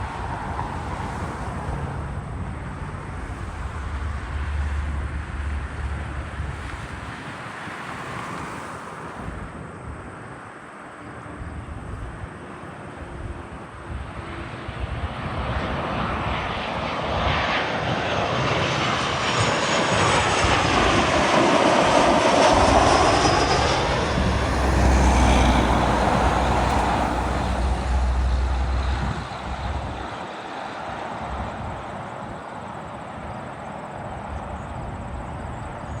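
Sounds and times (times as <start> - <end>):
airplane passing overhead: 0.0 - 36.0.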